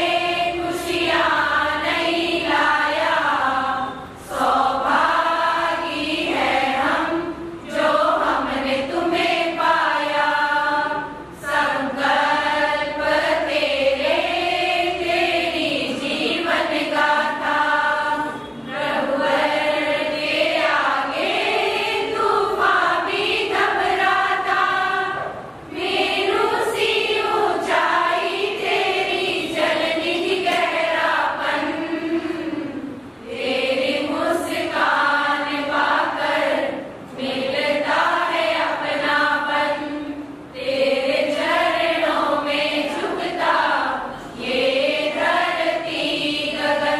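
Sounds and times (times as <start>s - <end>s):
women's choir singing: 0.0s - 46.9s.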